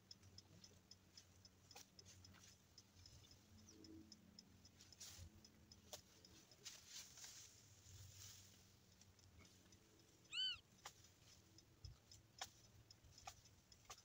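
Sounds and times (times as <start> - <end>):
faint clicks and rustles: 0.0 - 14.0
steady high ticking: 0.0 - 14.0.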